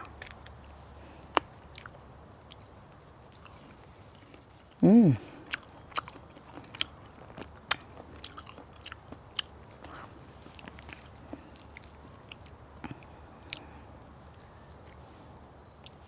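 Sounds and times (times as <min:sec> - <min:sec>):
person chewing crunchy fruit: 0:00.0 - 0:16.0.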